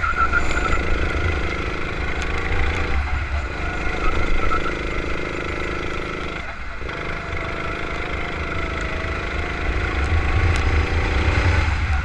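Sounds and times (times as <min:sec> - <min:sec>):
kart engine running: 0:00.0 - 0:12.0
wind and vibration rumble: 0:00.0 - 0:12.0.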